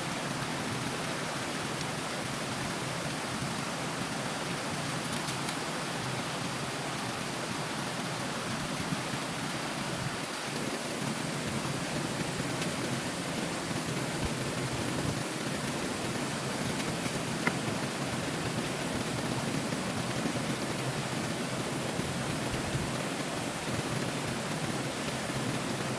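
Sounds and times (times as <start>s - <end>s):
stream water rushing: 0.0s - 25.9s.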